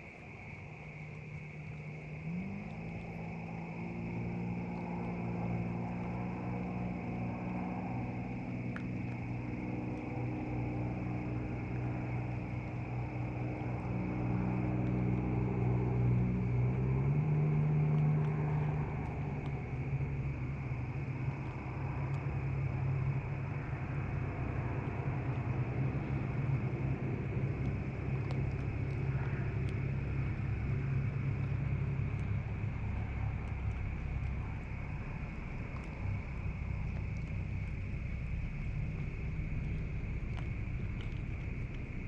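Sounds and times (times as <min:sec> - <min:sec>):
engine running: 0:00.0 - 0:42.0.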